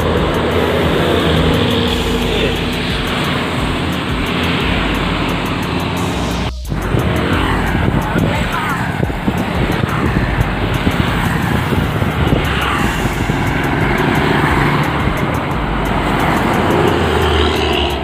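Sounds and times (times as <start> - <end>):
bus engine approaching: 0.0 - 18.0
car passing close: 0.0 - 18.0
motorcycles passing: 0.0 - 18.0.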